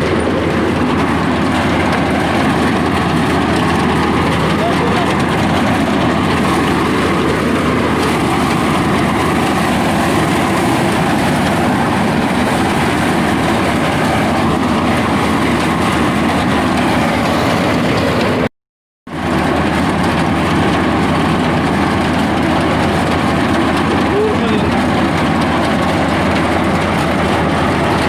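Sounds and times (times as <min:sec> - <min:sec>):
engine-driven machine running: 0:00.0 - 0:18.5, 0:19.1 - 0:28.0.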